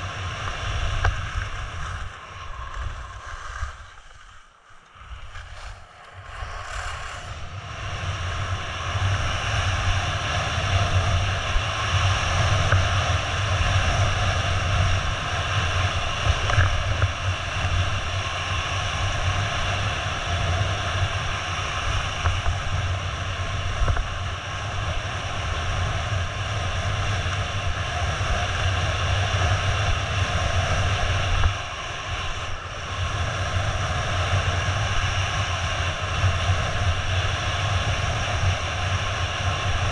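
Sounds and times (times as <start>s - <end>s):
skis sliding over snow: 0.0s - 39.9s
wind buffeting microphone: 0.0s - 39.9s.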